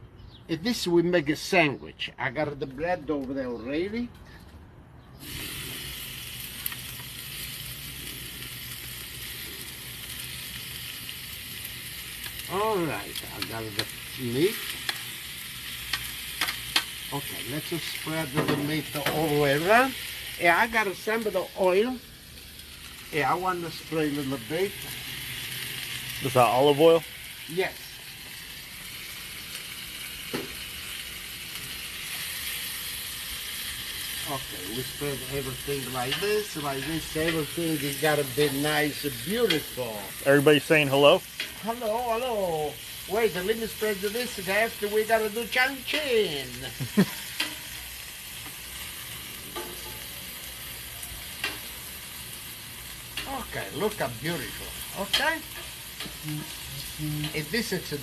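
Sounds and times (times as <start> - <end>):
steak sizzling on a griddle: 5.2 - 58.0.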